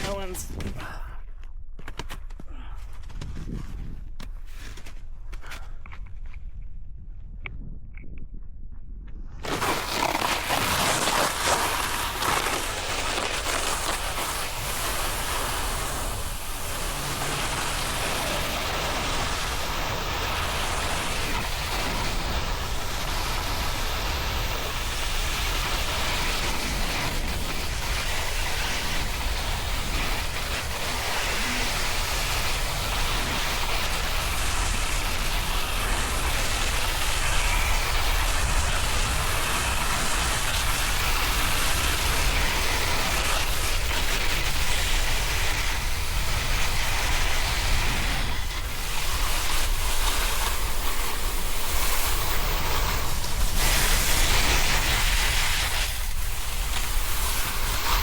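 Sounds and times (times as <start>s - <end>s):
wind rumbling over microphone: 3.1s - 4.5s, 6.0s - 58.0s
snowboard carving over snow: 9.4s - 58.0s.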